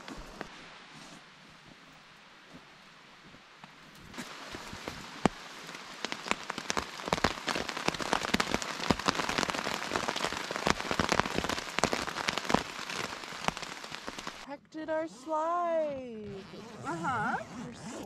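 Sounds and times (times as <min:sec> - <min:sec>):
rain falling: 0:00.0 - 0:14.5.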